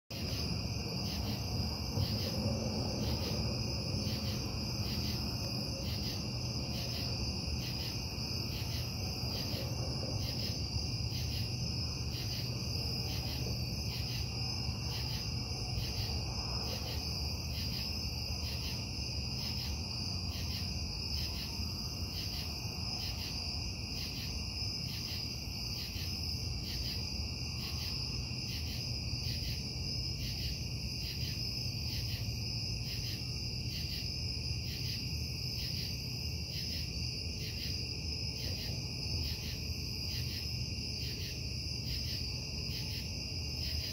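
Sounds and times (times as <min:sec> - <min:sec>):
night insects chirping: 0:00.1 - 0:43.9.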